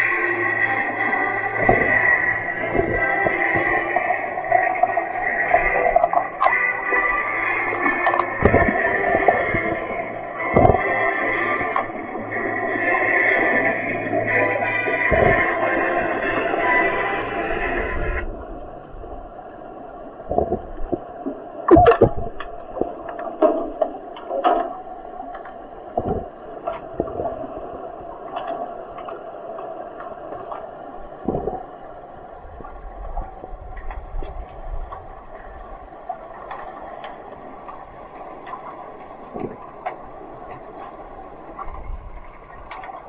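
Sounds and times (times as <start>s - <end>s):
underwater hum: 0.0s - 43.0s
dull underwater knocks and clicks: 0.6s - 12.2s, 14.1s - 16.1s, 20.2s - 43.0s.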